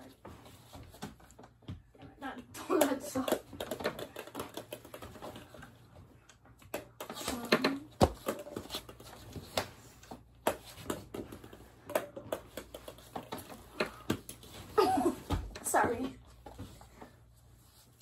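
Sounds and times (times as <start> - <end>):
balls bouncing on hardwood floor: 0.2 - 5.8, 6.6 - 16.8.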